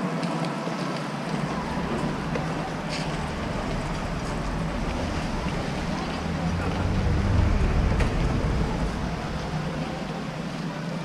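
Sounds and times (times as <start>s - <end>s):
diesel engine running: 1.3s - 11.0s.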